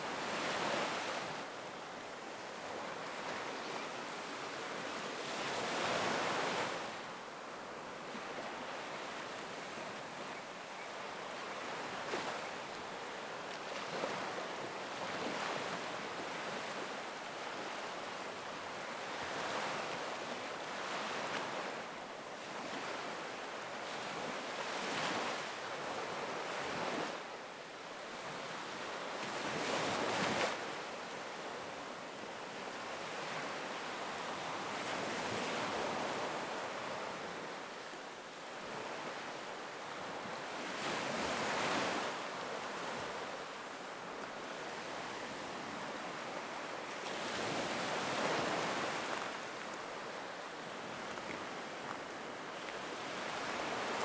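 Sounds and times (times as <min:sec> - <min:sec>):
waves breaking on beach: 0:00.0 - 0:10.3, 0:11.2 - 0:54.0.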